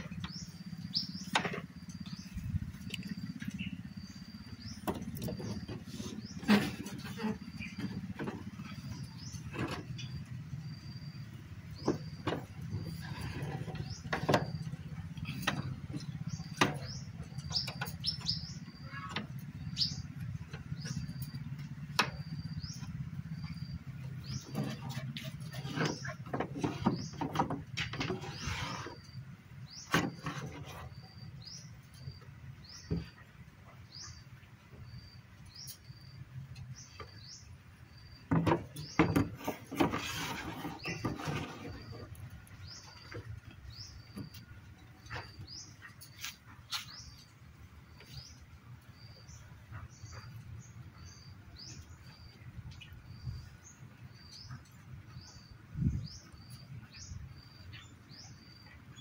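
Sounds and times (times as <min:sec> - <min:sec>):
small bird chirping: 0:00.0 - 0:59.0.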